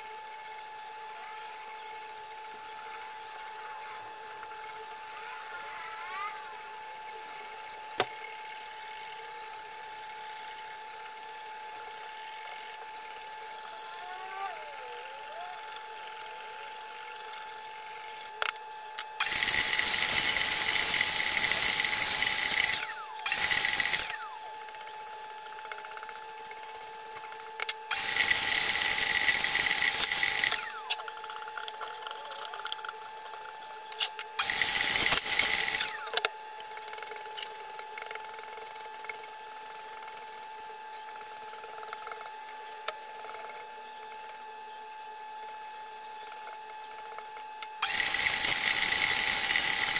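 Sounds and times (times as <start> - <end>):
vacuum cleaner motor whining: 0.0 - 49.9.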